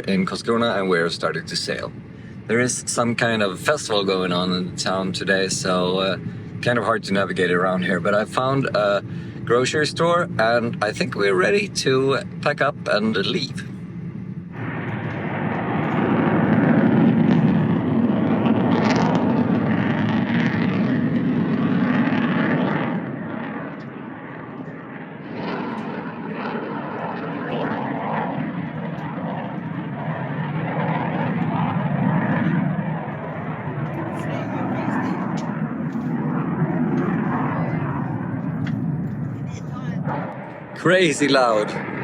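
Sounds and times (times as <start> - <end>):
loud aircraft engine roar: 0.0 - 42.0.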